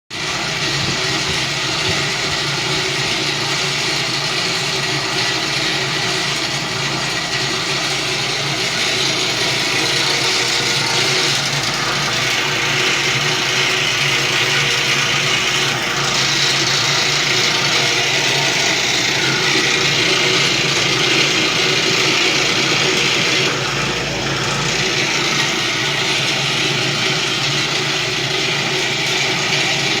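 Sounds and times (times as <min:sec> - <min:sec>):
electric motor hum: 0:00.2 - 0:30.0
mechanical whir and rattle: 0:00.2 - 0:30.0.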